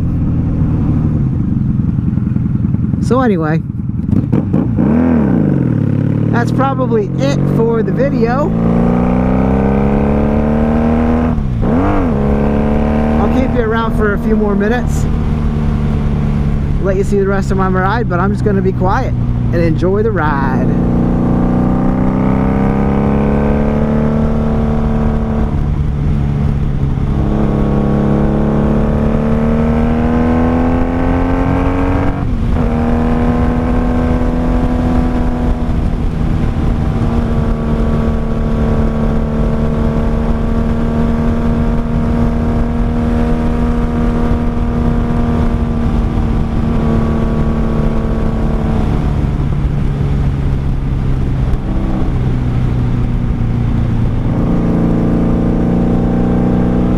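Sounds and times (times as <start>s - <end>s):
motorcycle engine and exhaust: 0.0s - 56.9s.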